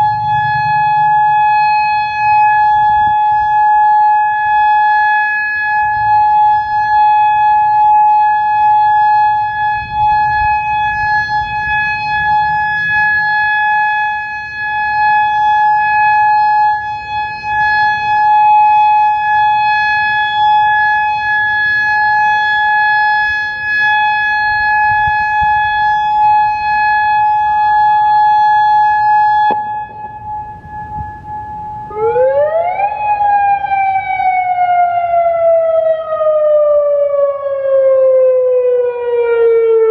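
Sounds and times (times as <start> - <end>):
siren wail rising and falling: 0.0 - 39.9
warning siren steady tone: 0.0 - 39.9.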